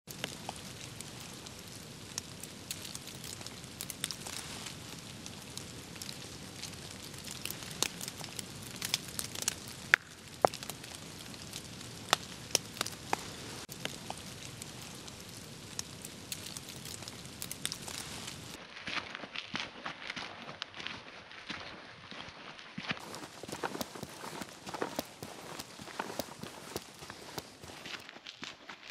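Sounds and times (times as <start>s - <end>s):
sharp crackles and ticks: 0.1s - 18.6s, 23.0s - 28.9s.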